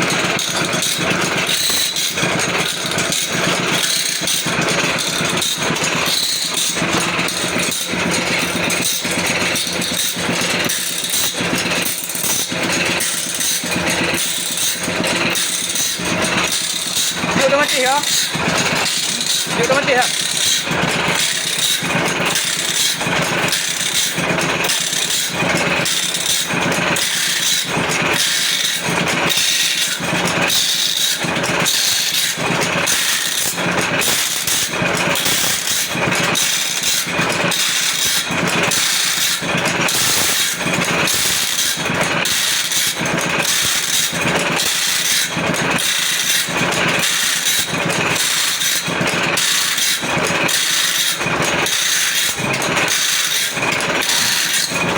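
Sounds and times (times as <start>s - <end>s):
grinding wheel strokes: 0.0s - 54.9s
motor hum: 0.0s - 54.9s.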